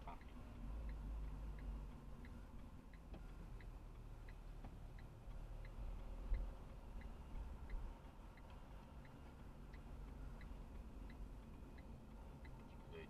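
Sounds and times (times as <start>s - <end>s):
engine and road rumble: 0.0s - 13.0s
turn signal ticking: 0.0s - 13.0s.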